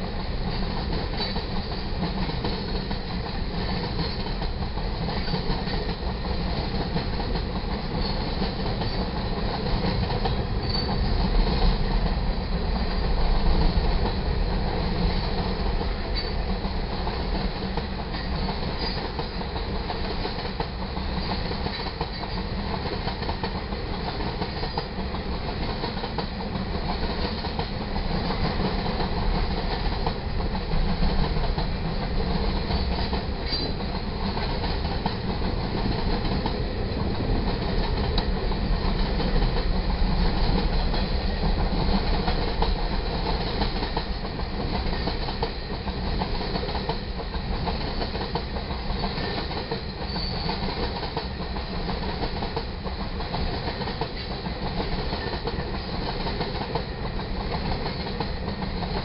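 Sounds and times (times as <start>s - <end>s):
steel wheels clattering on rails: 0.0s - 59.0s.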